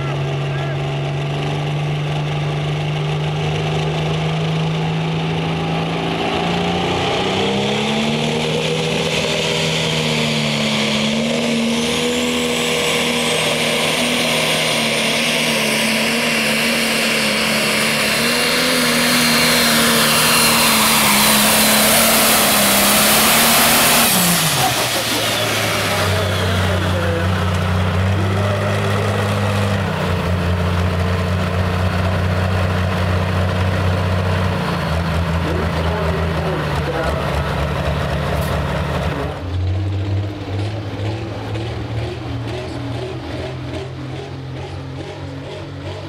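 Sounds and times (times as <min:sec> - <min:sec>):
diesel tractor engine revving: 0:00.0 - 0:46.0.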